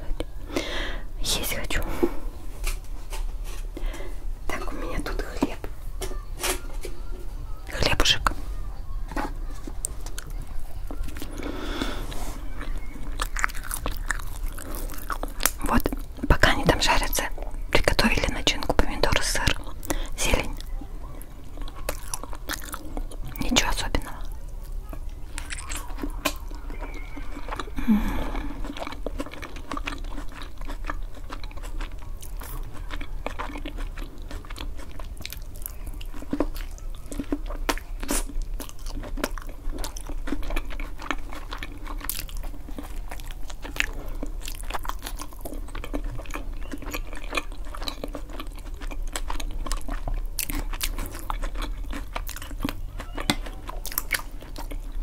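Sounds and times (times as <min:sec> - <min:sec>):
biting and chewing food: 0:00.0 - 0:55.0.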